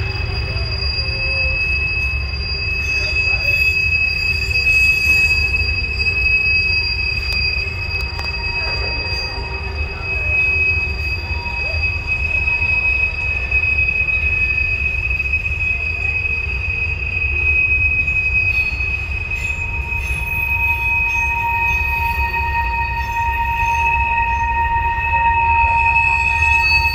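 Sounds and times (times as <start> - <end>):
rolling freight cars rumble: 0.0 - 26.9
train wheel squeal: 0.0 - 26.9.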